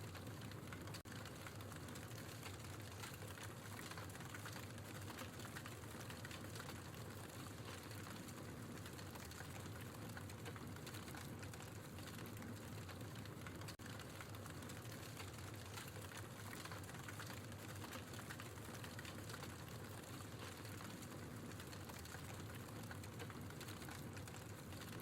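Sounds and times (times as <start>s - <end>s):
logs crackling in fireplace: 0.1s - 25.0s.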